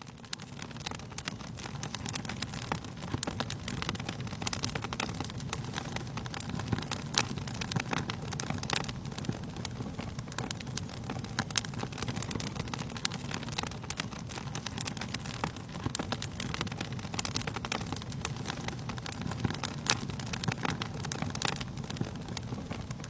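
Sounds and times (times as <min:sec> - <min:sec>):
fire crackling and popping: 0:00.0 - 0:23.0
low rush of flames: 0:00.1 - 0:23.0.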